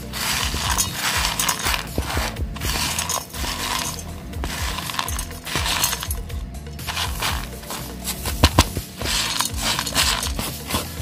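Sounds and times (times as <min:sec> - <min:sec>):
dry lentils rattling in metal jar: 0:00.0 - 0:11.0.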